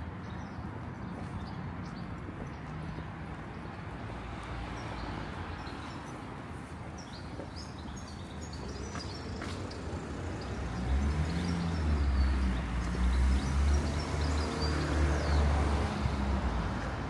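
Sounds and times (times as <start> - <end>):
small birds chirping: 0.2 - 15.4.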